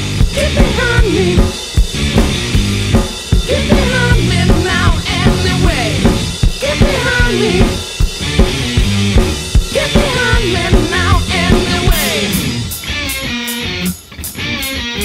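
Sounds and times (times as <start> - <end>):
song with drums and singing: 0.0 - 13.0.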